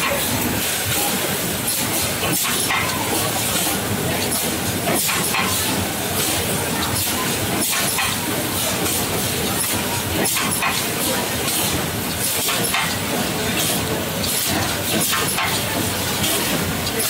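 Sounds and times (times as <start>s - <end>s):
conveyor clacks: 0.0s - 17.0s
production line machinery running: 0.0s - 17.0s.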